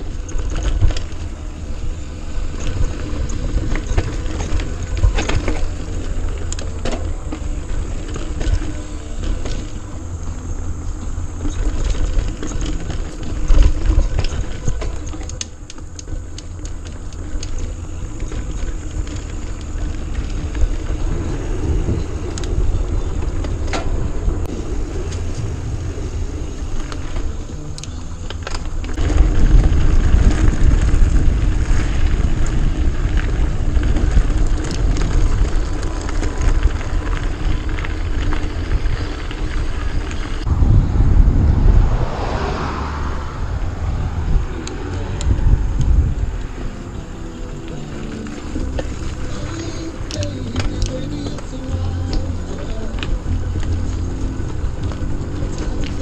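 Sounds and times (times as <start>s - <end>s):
bike rattling: 0.0s - 56.0s
tyres rolling on dirt: 0.0s - 56.0s
wind on microphone: 0.0s - 56.0s.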